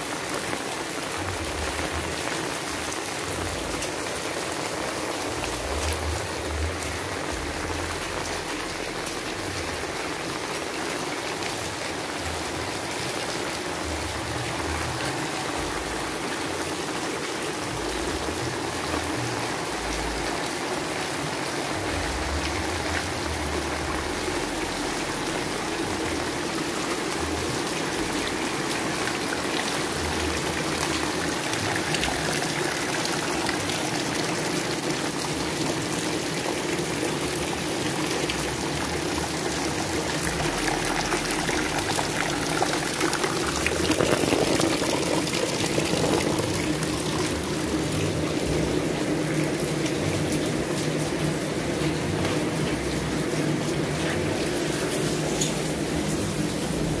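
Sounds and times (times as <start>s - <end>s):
rain splashing on wet ground: 0.0s - 57.0s.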